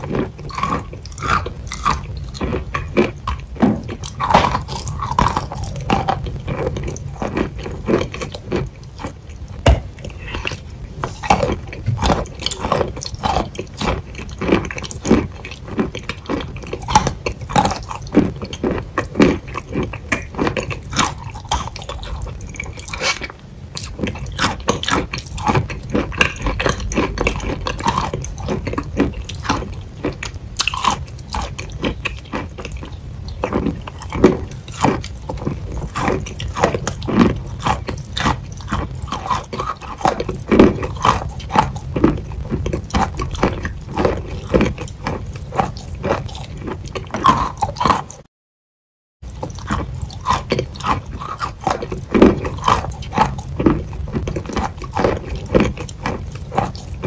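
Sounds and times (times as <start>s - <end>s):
biting and chewing crunches: 0.0s - 48.3s, 49.2s - 57.0s.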